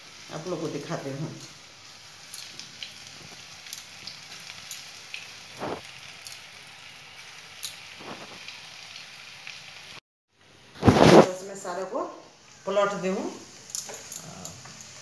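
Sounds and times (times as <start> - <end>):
food frying in hot oil: 0.0 - 15.0.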